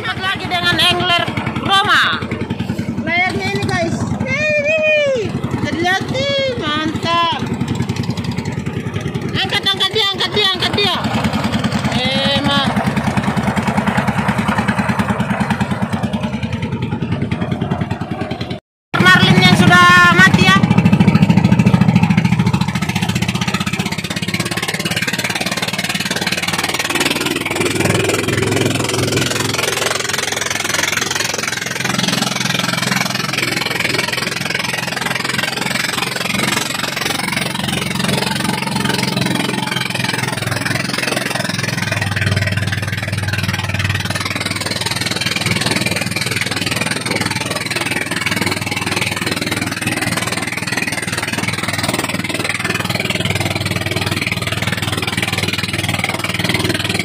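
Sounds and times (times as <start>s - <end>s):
boat engine running: 0.0s - 57.0s
water rushing along hull: 0.0s - 57.0s.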